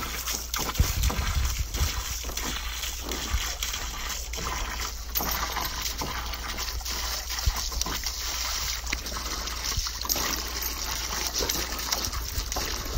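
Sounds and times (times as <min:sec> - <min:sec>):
dog splashing in water: 0:00.0 - 0:12.9
hose water spraying: 0:00.0 - 0:12.9.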